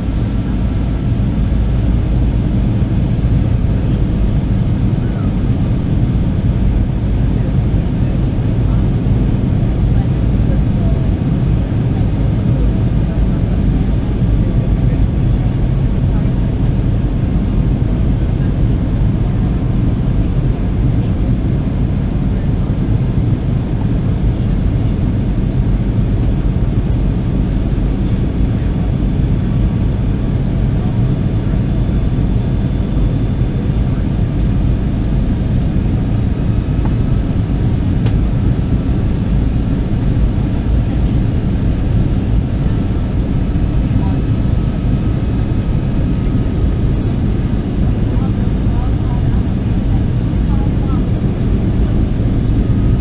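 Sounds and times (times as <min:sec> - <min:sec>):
airplane cabin engine roar: 0:00.0 - 0:53.0.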